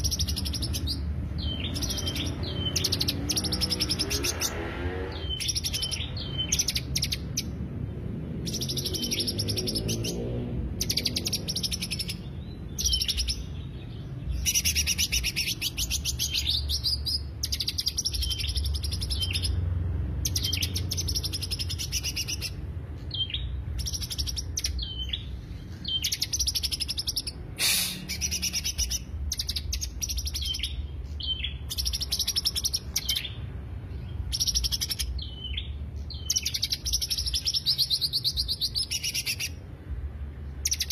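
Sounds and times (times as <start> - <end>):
bird singing chattering phrases: 0.0 - 39.9, 40.5 - 40.9.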